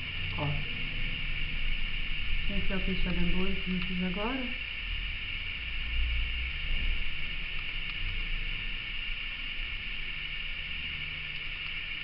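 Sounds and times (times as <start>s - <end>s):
low hum: 0.0s - 12.0s
steady hiss: 0.0s - 12.0s.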